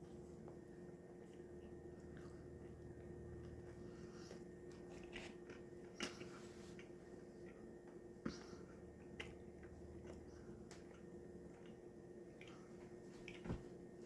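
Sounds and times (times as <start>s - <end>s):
faint chewing: 0.0s - 13.7s
steady low hum: 0.0s - 14.0s.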